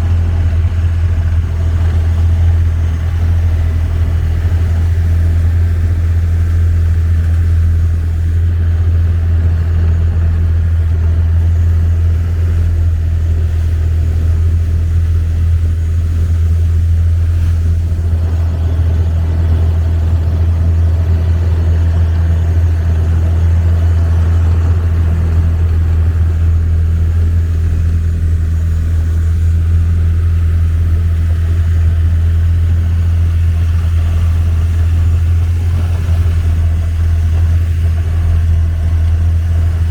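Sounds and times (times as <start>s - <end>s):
boat engine droning: 0.0s - 39.9s
water wash: 0.0s - 39.9s.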